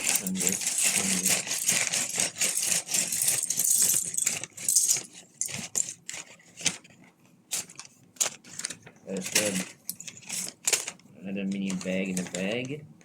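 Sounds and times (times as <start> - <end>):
plastic bag crinkling: 0.0 - 6.8, 7.5 - 12.7
plastic pieces rattling and clicking: 0.0 - 6.8, 7.5 - 12.8.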